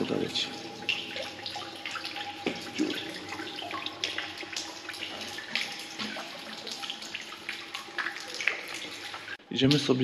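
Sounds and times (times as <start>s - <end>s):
water pouring and dripping: 0.0s - 10.0s.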